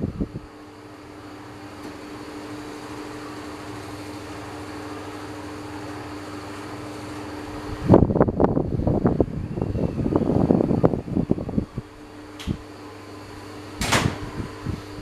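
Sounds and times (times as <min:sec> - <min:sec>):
electric fan motor humming: 0:00.0 - 0:15.0.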